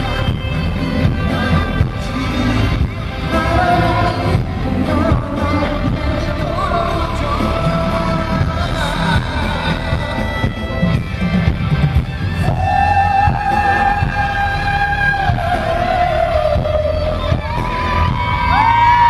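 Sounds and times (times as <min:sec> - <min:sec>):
heavy bass backing: 0:00.0 - 0:19.0
male singing: 0:00.9 - 0:11.0, 0:12.5 - 0:17.7.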